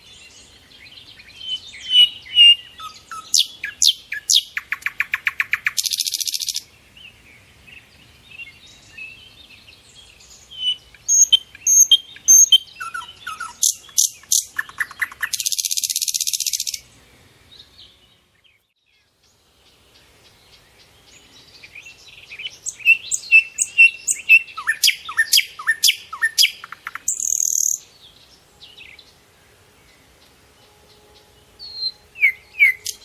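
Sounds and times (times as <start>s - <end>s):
small songbirds singing: 0.0s - 33.0s.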